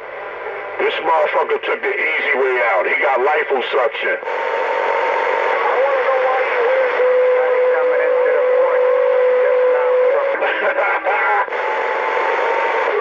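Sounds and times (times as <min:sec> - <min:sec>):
radio static hiss: 0:00.7 - 0:13.0.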